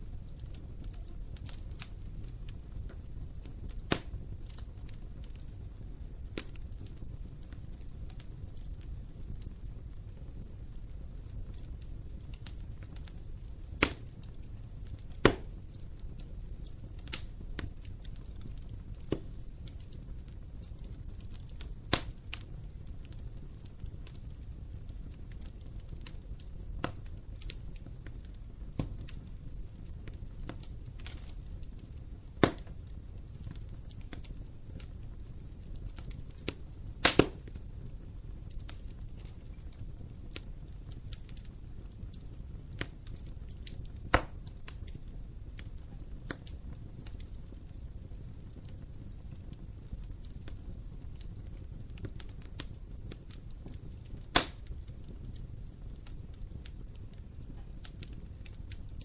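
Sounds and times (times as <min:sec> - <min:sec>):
fire crackling: 0:00.0 - 0:59.0
fire low rumble: 0:00.0 - 0:59.0
sharp pops from fire: 0:00.0 - 0:59.0.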